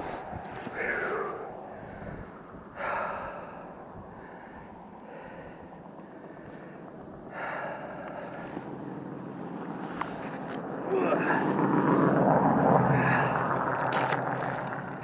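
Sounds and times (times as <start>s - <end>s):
person breathing: 0.0s - 8.9s, 9.8s - 15.0s.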